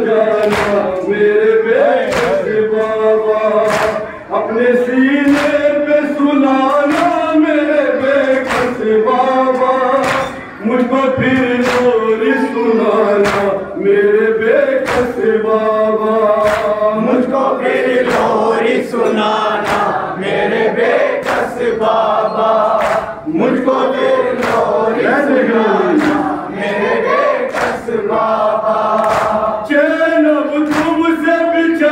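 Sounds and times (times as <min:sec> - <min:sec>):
men chanting in unison: 0:00.0 - 0:31.9.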